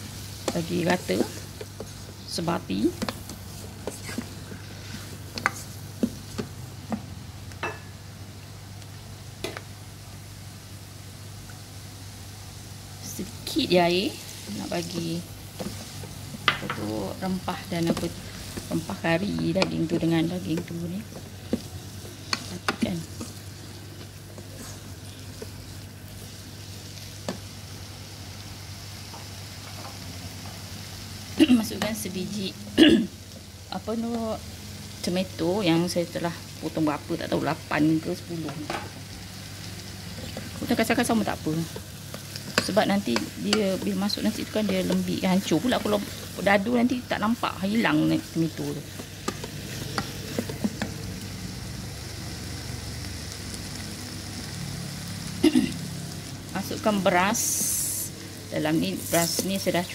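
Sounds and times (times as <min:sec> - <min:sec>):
faint sizzle: 0:00.0 - 0:59.9.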